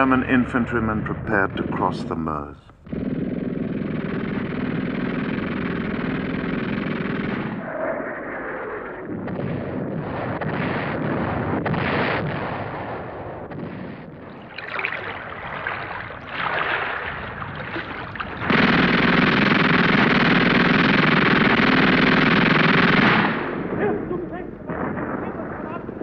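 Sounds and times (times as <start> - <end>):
explosions: 0.0 - 26.0
gunshots: 0.0 - 26.0
noisy rumble: 0.0 - 26.0
machine-gun fire: 2.8 - 26.0.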